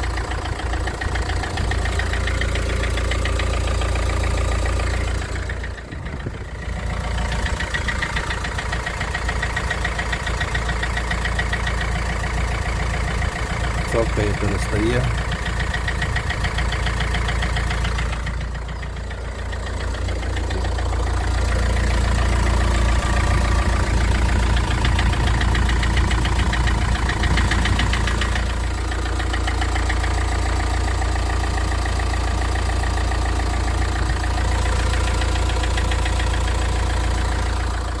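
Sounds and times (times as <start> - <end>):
diesel engine knocking: 0.0 - 38.0.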